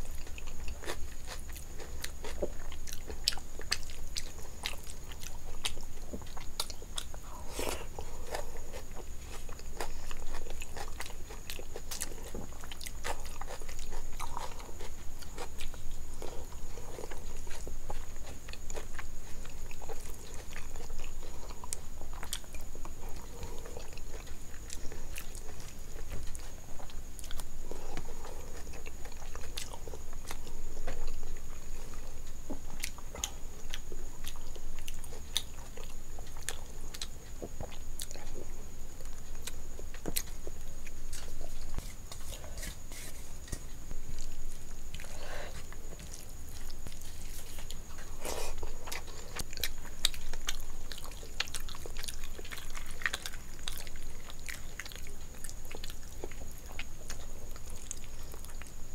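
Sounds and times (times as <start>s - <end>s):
wet chewing and lip-smacking: 0.1s - 58.8s.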